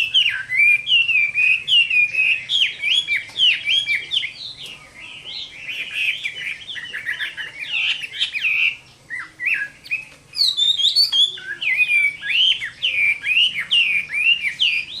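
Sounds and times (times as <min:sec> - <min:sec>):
songbird whistling song: 0:00.0 - 0:15.0.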